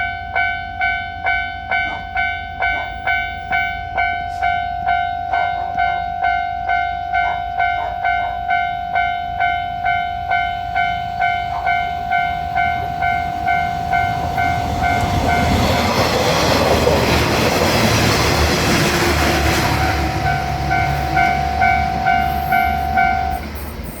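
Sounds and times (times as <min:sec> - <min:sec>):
level-crossing warning bell dinging: 0:00.0 - 0:24.0
railcar rumble and wheel noise: 0:00.0 - 0:24.0.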